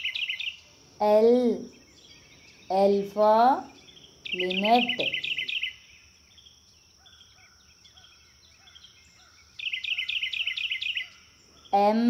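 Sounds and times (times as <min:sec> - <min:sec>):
songbird twittering: 0:00.0 - 0:12.0.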